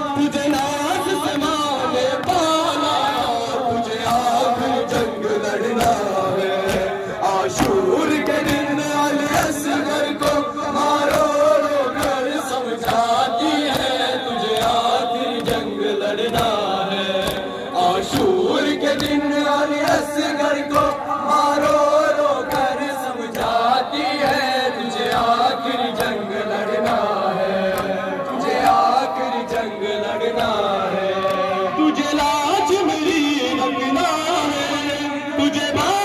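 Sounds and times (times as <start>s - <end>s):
men chanting in unison: 0.0s - 36.0s
hands slapping chests: 0.4s - 32.4s.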